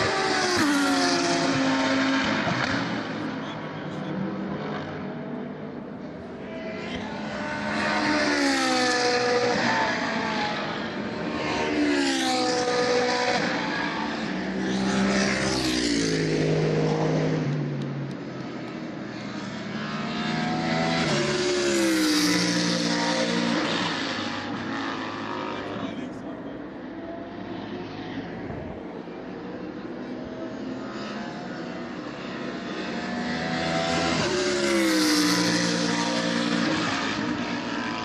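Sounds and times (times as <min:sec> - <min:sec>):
race cars passing at speed: 0:00.0 - 0:38.0.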